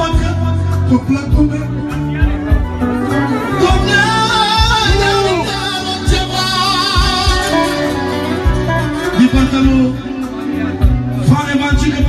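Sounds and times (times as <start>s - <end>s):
band with steady low beat: 0.0s - 12.0s
man singing through microphone: 0.0s - 12.0s.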